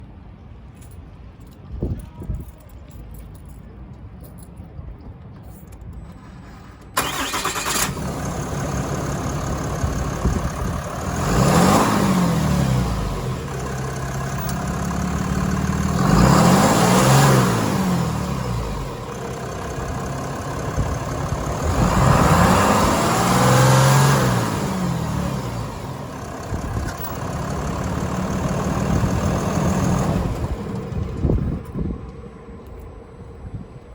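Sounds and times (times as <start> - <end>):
truck engine idling and revving: 5.7 - 33.9
truck engine cranking and starting: 5.8 - 33.9.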